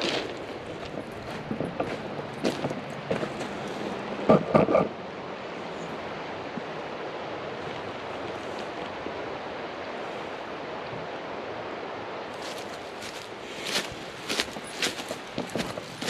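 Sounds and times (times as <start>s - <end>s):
river water rushing over pebbles: 0.0s - 16.0s.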